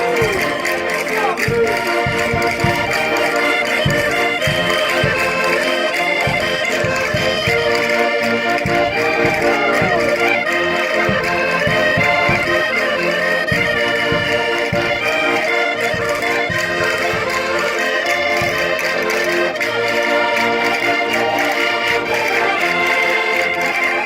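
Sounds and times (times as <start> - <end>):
button accordions playing folk dance: 0.0 - 24.0.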